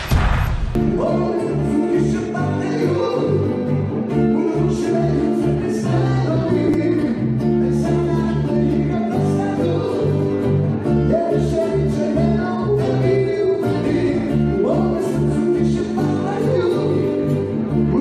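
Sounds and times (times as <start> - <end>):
bass guitar line: 0.0 - 18.0
strummed guitar: 0.7 - 18.0
man singing: 0.8 - 18.0.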